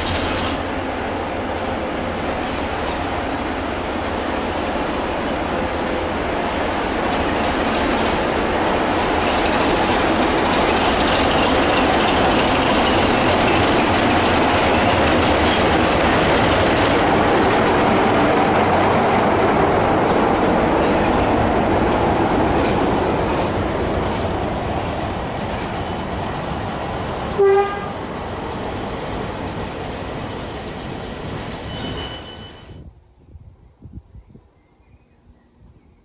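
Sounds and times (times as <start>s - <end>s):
train wheels clattering: 0.0s - 0.8s, 4.1s - 32.7s.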